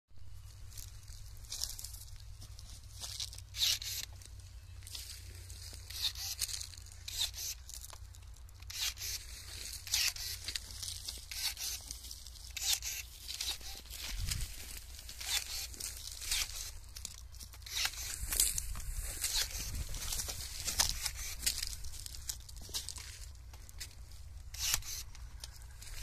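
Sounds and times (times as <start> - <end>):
branches rustling: 0.3 - 26.0
pruning shears snipping: 3.2 - 4.2, 5.8 - 25.8.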